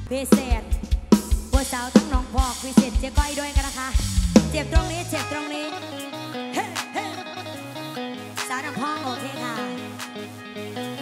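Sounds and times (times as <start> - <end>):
bass: 0.0 - 11.0
drum kit beating: 0.0 - 11.0.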